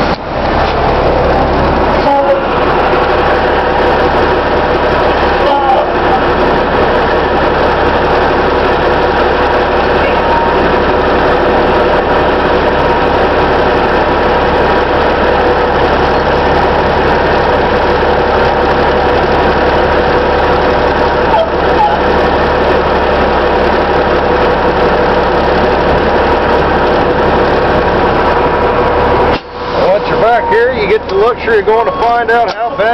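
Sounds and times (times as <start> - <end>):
diesel truck engine running: 0.0 - 32.9
steady high tone: 0.8 - 32.9.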